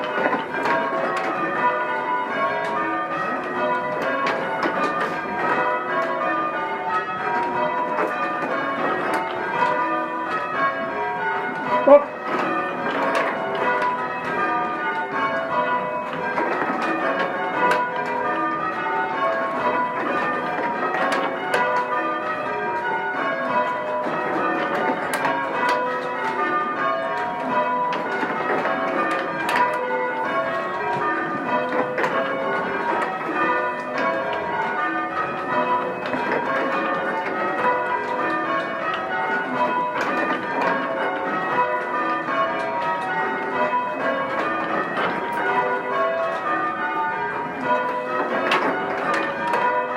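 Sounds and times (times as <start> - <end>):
church bells change ringing: 0.0 - 49.9.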